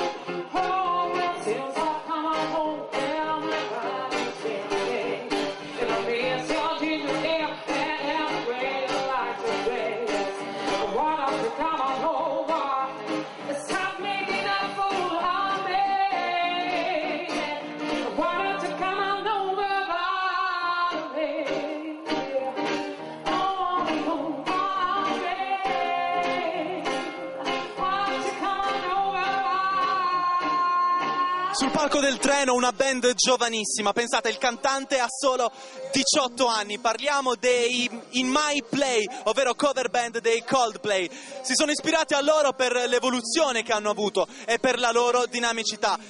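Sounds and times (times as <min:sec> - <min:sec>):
woman singing: 0:00.0 - 0:32.6, 0:33.6 - 0:43.7
acoustic and electric guitars: 0:00.0 - 0:46.0.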